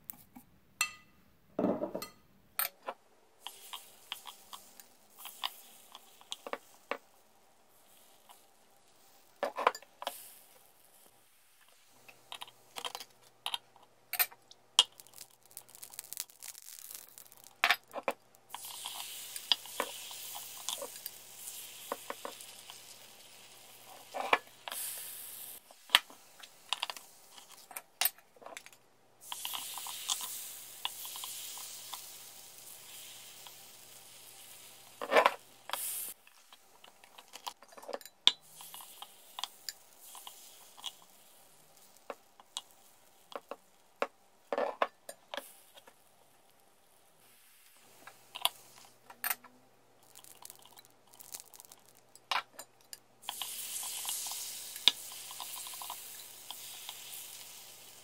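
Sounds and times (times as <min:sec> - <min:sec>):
batter sizzling: 0:03.2 - 0:49.2, 0:49.8 - 0:52.3, 0:53.0 - 0:58.0.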